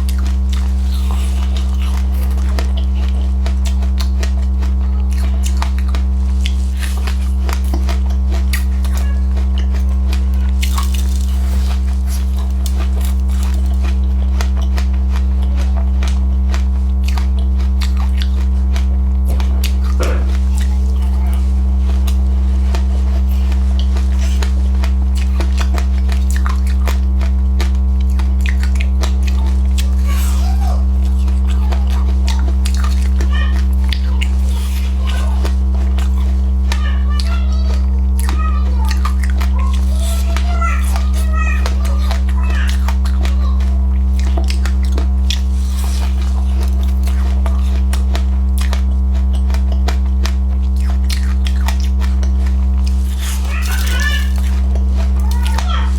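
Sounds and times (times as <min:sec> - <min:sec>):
crunchy chewing: 0:00.0 - 0:55.9
electrical hum: 0:00.0 - 0:55.9.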